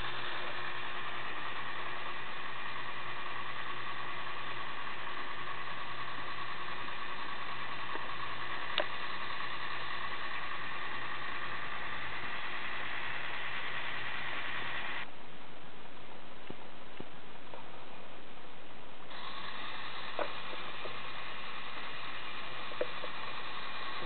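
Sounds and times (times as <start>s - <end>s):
toy motor and gears whining: 0.0s - 15.1s, 19.1s - 24.0s.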